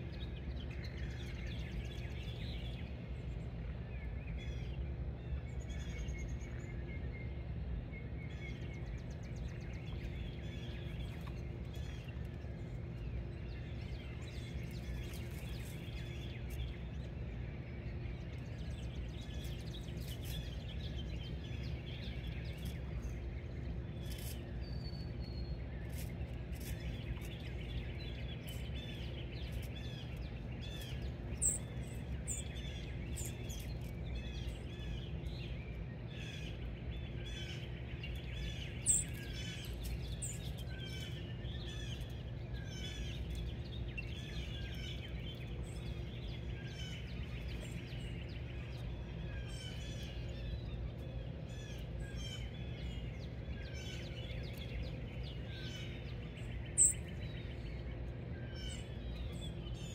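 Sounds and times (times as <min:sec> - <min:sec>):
songbirds chirping: 0:00.0 - 0:59.9
steady low hum: 0:00.0 - 0:59.9.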